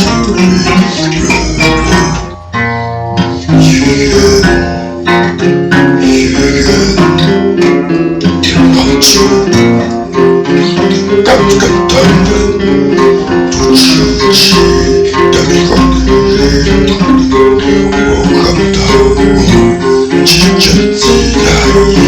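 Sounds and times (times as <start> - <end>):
folk music on acoustic guitar: 0.0 - 22.0.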